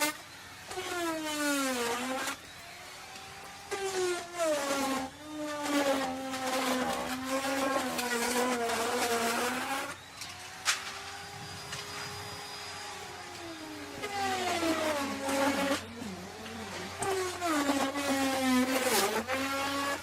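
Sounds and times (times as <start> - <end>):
wood router cutting wood: 0.0 - 20.0.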